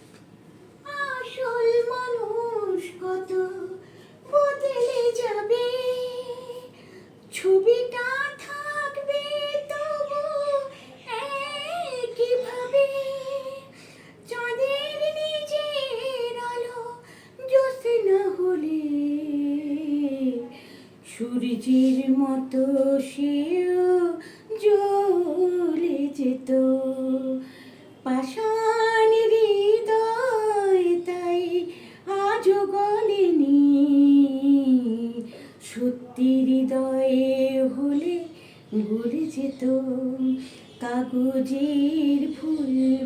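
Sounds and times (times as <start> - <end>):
woman singing unaccompanied: 0.8 - 43.0.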